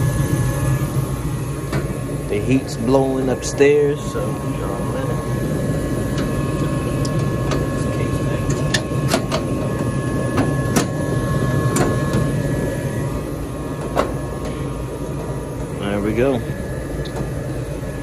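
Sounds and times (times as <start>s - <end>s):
furnace blower hum and air rush: 0.0s - 18.0s.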